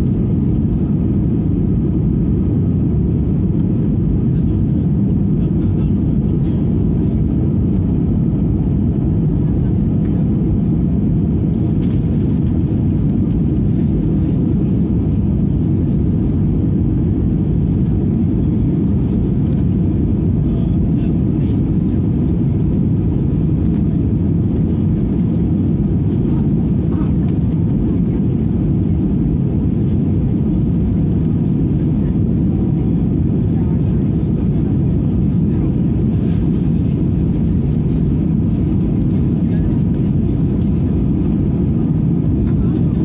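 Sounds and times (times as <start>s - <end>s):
airliner cabin engine rumble: 0.0s - 43.0s.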